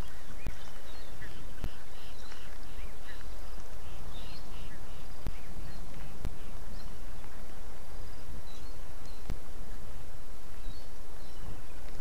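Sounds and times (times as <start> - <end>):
rain hiss: 0.0 - 12.0
raindrops striking microphone: 0.0 - 12.0.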